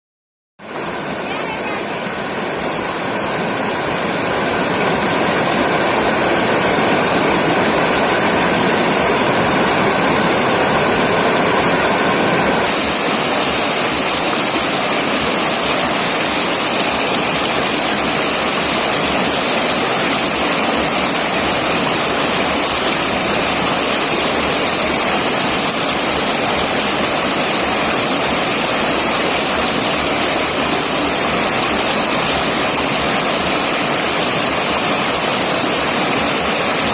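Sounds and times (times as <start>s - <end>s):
river water rushing: 0.6s - 36.9s.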